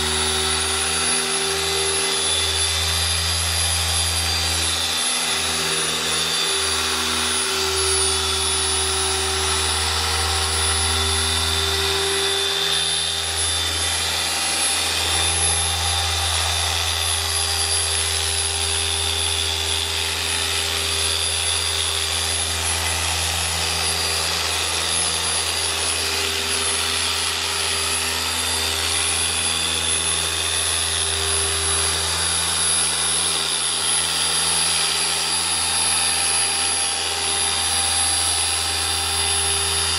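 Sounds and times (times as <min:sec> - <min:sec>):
electric polisher running: 0:00.0 - 0:39.9.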